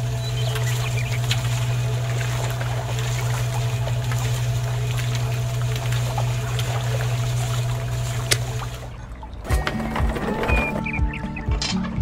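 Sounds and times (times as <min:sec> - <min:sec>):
small motor humming: 0:00.0 - 0:10.8.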